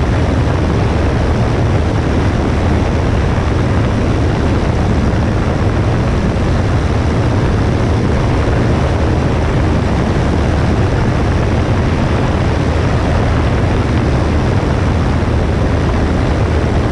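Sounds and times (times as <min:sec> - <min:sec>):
airplane engine and propeller droning: 0:00.0 - 0:16.9
rush of air: 0:00.0 - 0:16.9.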